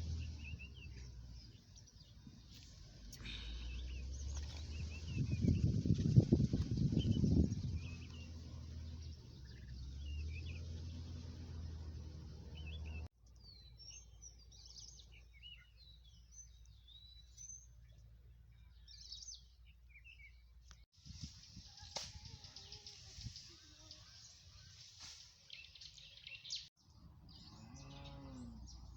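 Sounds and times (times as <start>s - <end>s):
birds chirping and whistling: 0.0s - 17.9s, 21.3s - 28.9s.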